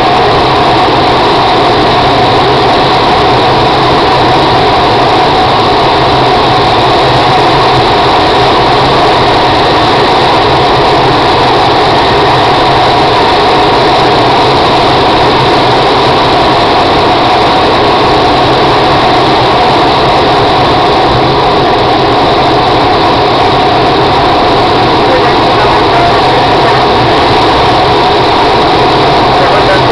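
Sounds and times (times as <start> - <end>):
airflow over canopy: 0.0 - 29.9
plane engine drone: 0.0 - 29.9.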